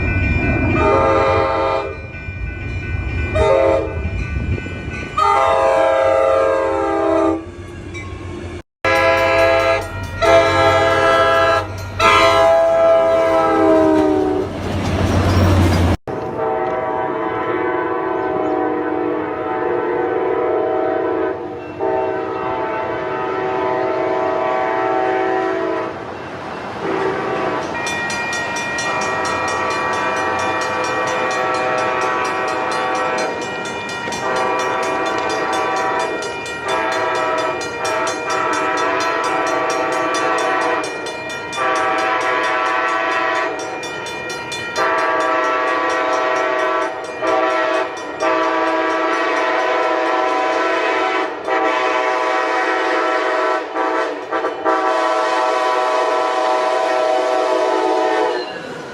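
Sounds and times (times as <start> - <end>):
train air horn blasts: 0.7 - 2.0, 3.4 - 4.1, 5.2 - 7.6, 8.8 - 14.5, 16.3 - 26.0, 26.8 - 27.6, 28.8 - 33.4, 34.1 - 43.7, 44.7 - 58.6.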